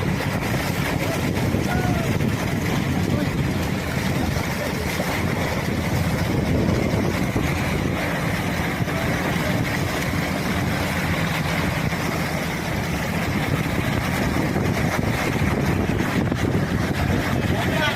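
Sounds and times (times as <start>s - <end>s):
boat motor humming: 0.0s - 17.9s
water noise: 0.0s - 17.9s
wind: 0.0s - 17.9s.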